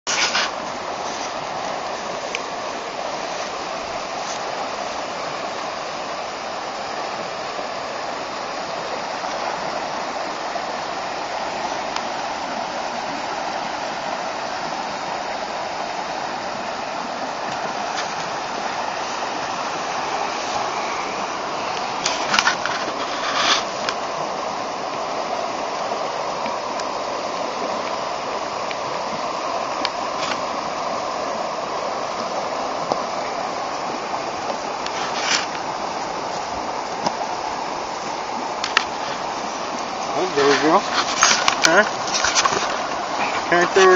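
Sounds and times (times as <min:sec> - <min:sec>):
water rushing through culvert: 0:00.1 - 0:43.9.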